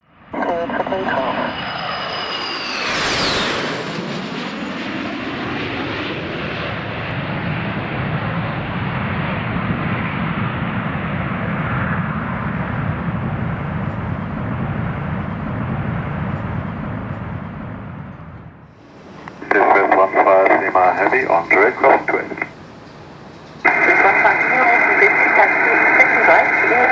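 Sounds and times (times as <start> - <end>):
jet airliner passing by: 0.1 - 26.9.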